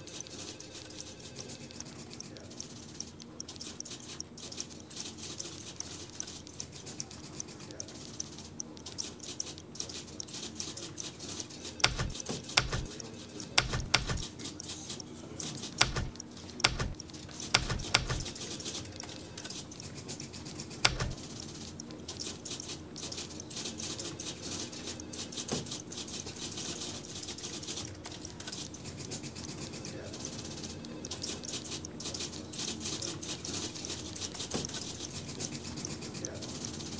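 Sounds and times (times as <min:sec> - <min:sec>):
typewriter keys clacking: 0:00.0 - 0:36.9.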